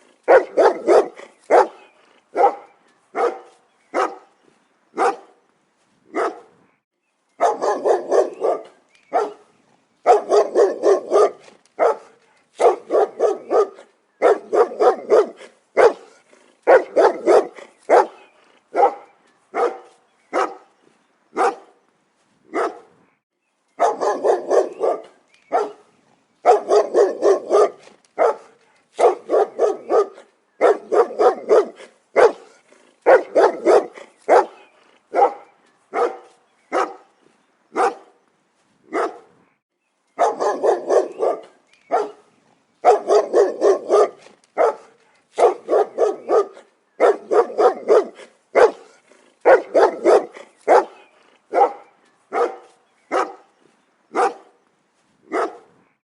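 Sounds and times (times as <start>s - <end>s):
dog barking: 0.2s - 4.3s, 5.0s - 5.4s, 6.1s - 6.6s, 7.4s - 20.7s, 21.4s - 21.7s, 22.5s - 22.9s, 23.8s - 37.1s, 37.7s - 38.2s, 38.9s - 39.3s, 40.2s - 53.5s, 54.1s - 54.6s, 55.3s - 55.7s.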